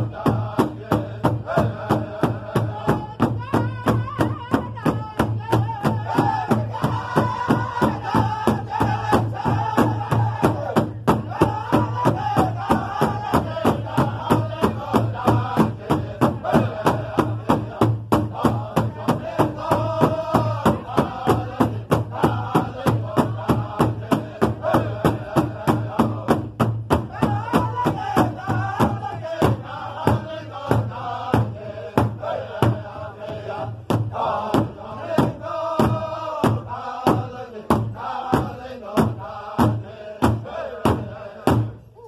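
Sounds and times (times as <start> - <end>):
large drum beating: 0.0 - 41.8
men singing a chant: 0.0 - 42.0.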